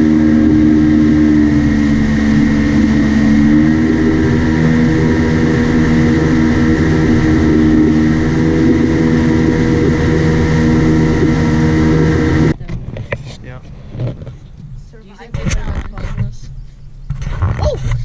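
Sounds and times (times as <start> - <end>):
engine running loudly: 0.0 - 16.4.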